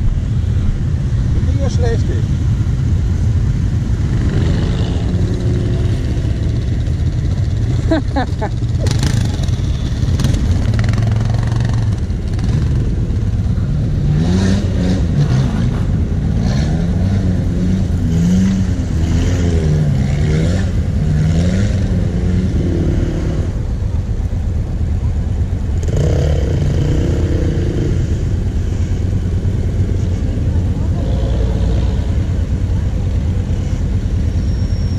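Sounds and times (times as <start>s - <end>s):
quad engine running at low revs: 0.0s - 34.9s
off-road vehicle engine revving: 3.6s - 23.8s, 25.8s - 34.9s.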